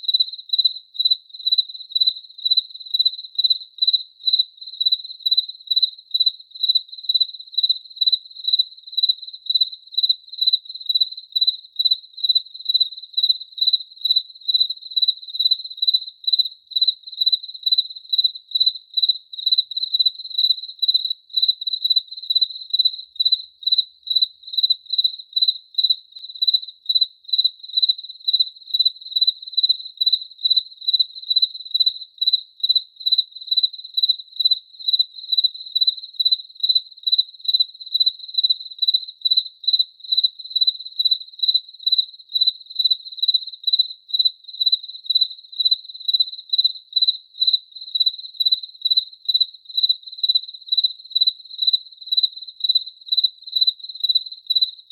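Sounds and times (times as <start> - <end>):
cricket chirping: 0.0 - 54.9.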